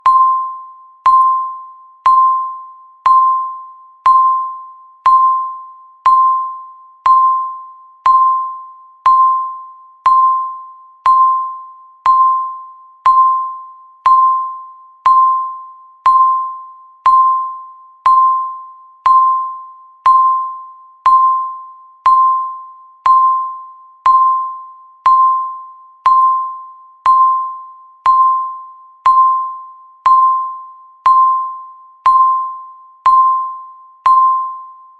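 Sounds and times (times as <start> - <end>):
bell-like timer chime: 0.0 - 34.9.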